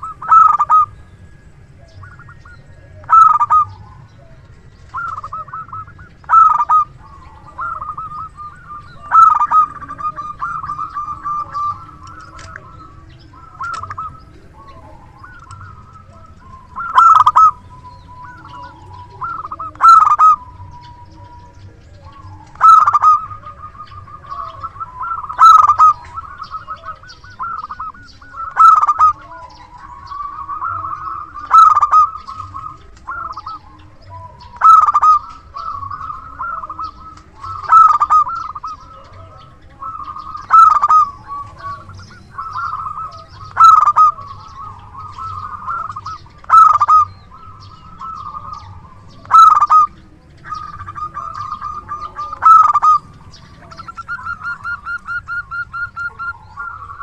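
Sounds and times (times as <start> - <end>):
dove cooing: 0.0 - 57.0
soft rippling coos: 0.0 - 57.0.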